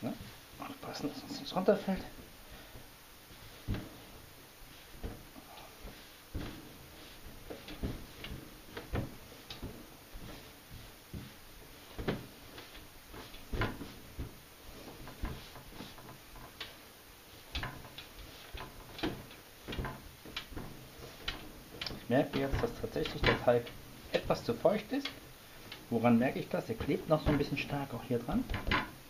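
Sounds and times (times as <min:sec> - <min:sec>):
dough thumping on metal worktop: 0:03.5 - 0:16.8, 0:17.4 - 0:29.0.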